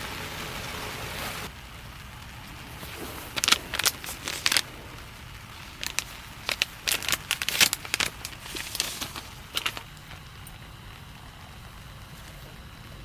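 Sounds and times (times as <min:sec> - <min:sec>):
wrapper crinkling: 0:01.6 - 0:13.0.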